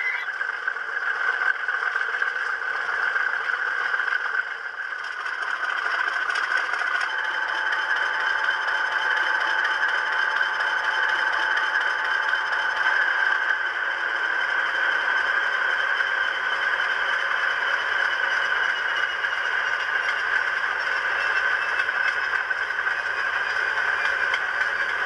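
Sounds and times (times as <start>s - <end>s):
model locomotive diesel idle: 0.0s - 25.0s.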